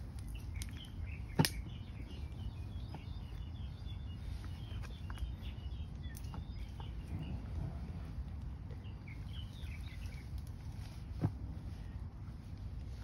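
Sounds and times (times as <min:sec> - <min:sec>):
low outdoor rumble: 0:00.0 - 0:13.0
faint bird chirps: 0:00.1 - 0:12.0.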